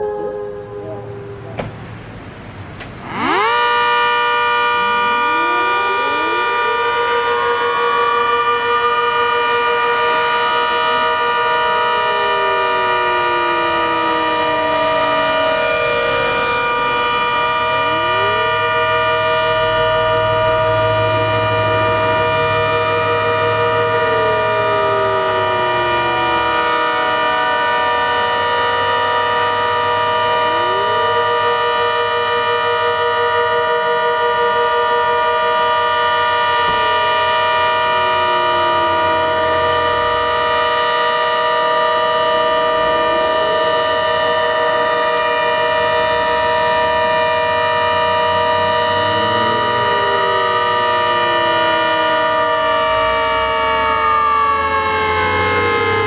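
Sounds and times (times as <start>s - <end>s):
outdoor warning siren: 0.0s - 56.0s.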